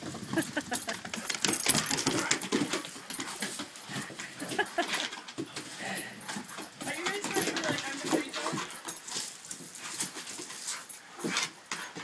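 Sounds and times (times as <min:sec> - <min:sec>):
dogs scrabbling on wooden deck: 0:00.0 - 0:12.0.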